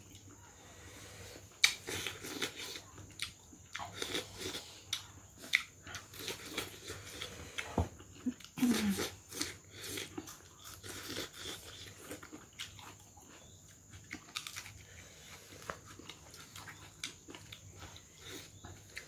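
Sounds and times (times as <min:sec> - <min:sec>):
person chewing food: 0:01.2 - 0:19.0
food crunching: 0:01.5 - 0:19.0.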